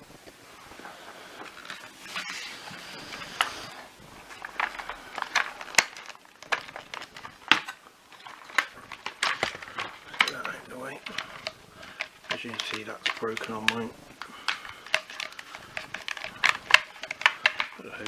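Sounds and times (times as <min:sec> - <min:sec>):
plastic parts clicking and knocking: 0:00.0 - 0:18.0
plastic rustling: 0:00.0 - 0:18.0.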